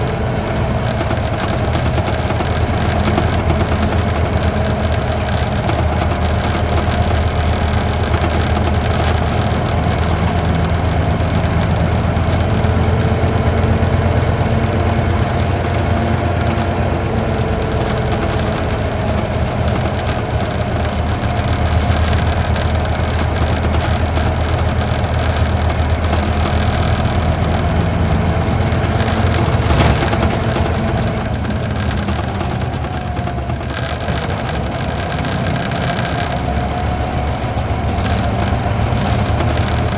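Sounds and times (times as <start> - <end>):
diesel coach engine drone: 0.0 - 39.9.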